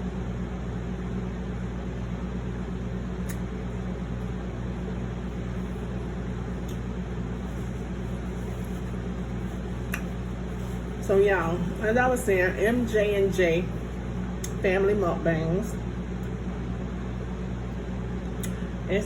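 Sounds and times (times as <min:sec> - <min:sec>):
low hum: 0:00.0 - 0:19.0
room noise hiss: 0:00.0 - 0:19.0.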